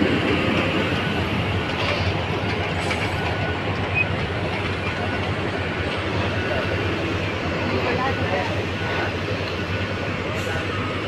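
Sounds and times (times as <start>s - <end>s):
heavy diesel machinery rumbling: 0.0s - 11.0s.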